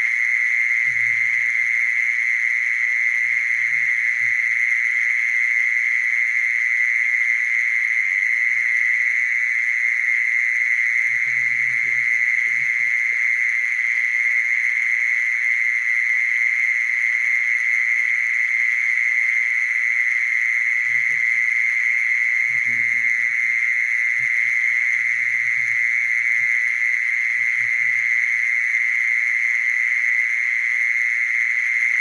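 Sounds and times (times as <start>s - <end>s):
mole cricket trilling: 0.0s - 32.0s.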